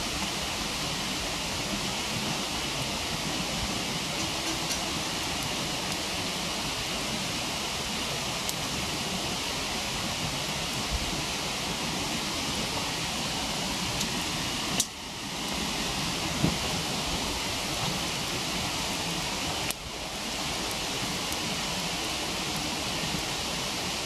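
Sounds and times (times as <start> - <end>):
campfire crackling: 0.0 - 24.0
waterfall rushing: 0.0 - 24.0.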